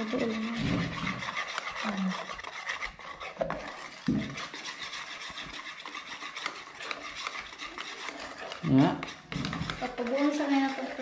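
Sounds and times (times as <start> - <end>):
whisk scraping a metal pot: 0.0 - 11.0.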